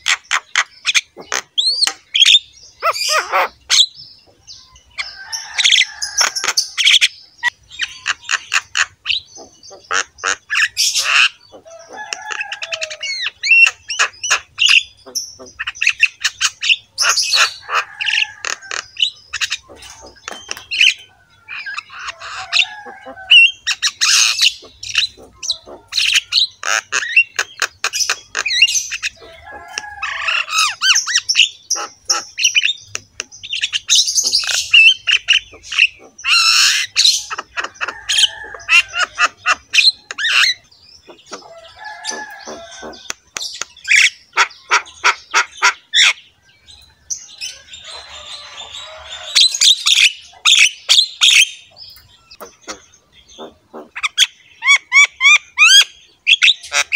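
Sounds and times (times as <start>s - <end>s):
birds squawking and chirping: 0.0s - 56.9s.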